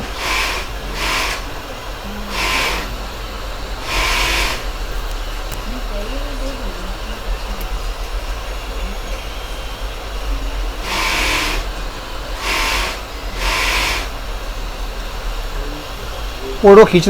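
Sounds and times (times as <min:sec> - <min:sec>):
hot air hissing from rework station: 0:00.0 - 0:17.0.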